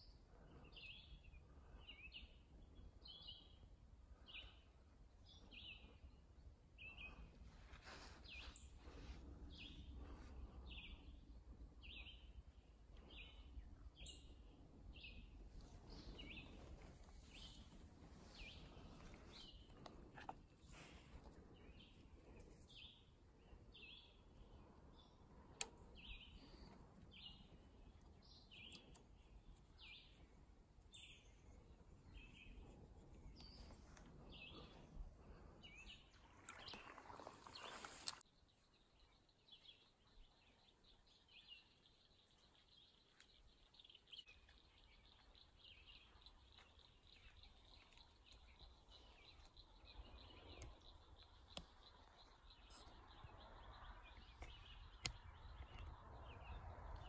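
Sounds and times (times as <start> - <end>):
faint birdsong chirps: 0.0 - 57.0.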